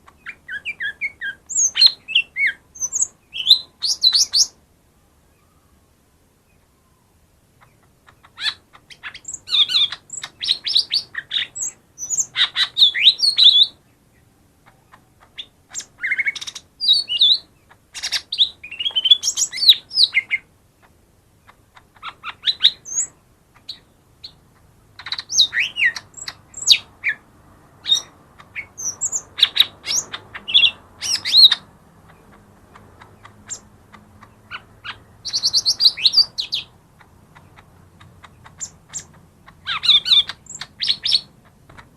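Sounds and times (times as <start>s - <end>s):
bird singing: 0.0s - 41.9s.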